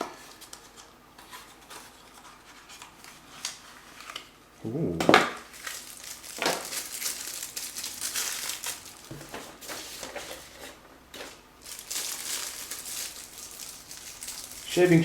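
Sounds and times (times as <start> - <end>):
packaging crinkling and rustling: 0.1 - 4.4, 5.3 - 15.0.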